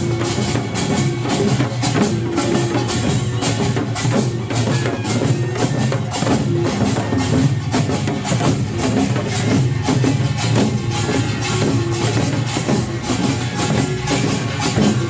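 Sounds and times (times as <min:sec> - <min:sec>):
barrel drums: 0:00.0 - 0:15.0
hourglass drums: 0:00.0 - 0:15.0.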